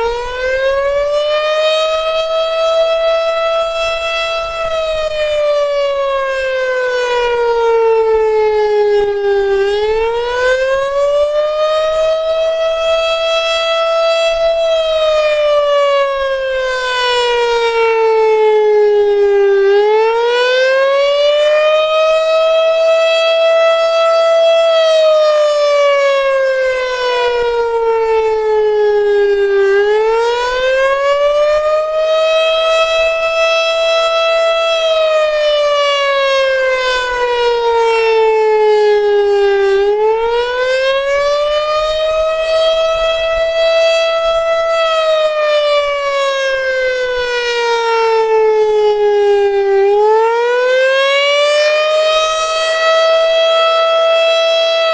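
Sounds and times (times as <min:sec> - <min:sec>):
warning siren wailing: 0:00.0 - 0:54.9.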